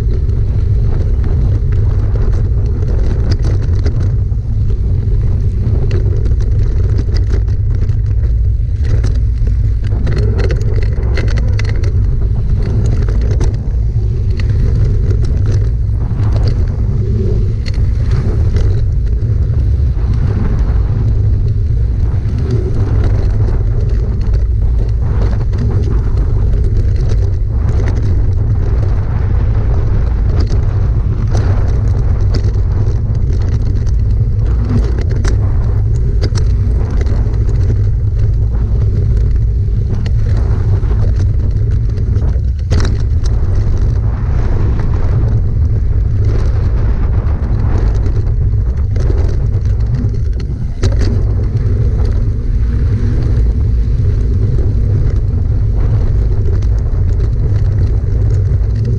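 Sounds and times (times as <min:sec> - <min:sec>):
bike clicks and rattles: 0:00.0 - 0:58.9
tyre noise on dirt trail: 0:00.0 - 0:58.9
wind buffeting microphone: 0:00.0 - 0:58.9.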